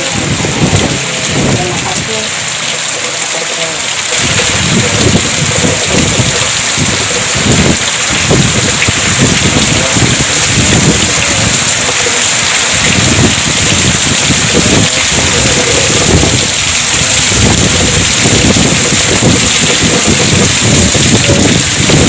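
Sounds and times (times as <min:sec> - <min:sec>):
wind buffeting microphone: 0:00.0 - 0:02.4, 0:04.1 - 0:22.0
heavy rain pouring: 0:00.0 - 0:22.0.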